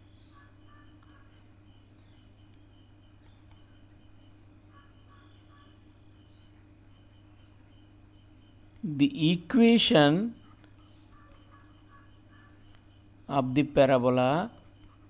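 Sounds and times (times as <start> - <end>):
cricket chirping: 0.0 - 15.0
low electrical hum: 0.0 - 15.0.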